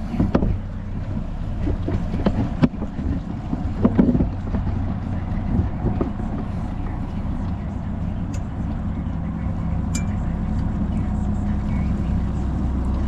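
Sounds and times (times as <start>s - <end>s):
outboard engine running: 0.0s - 13.0s
wind buffeting microphone: 0.0s - 13.0s.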